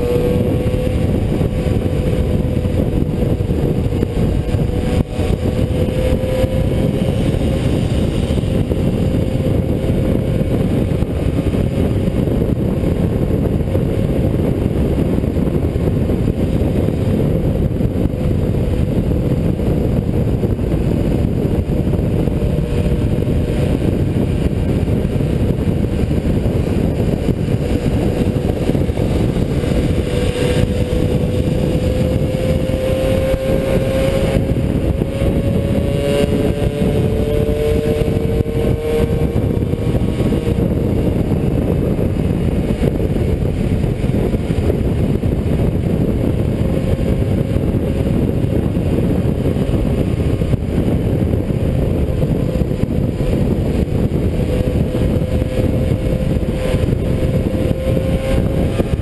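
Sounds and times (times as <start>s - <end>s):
moped engines buzzing: 0.0s - 59.0s
wind buffeting microphone: 0.0s - 59.0s.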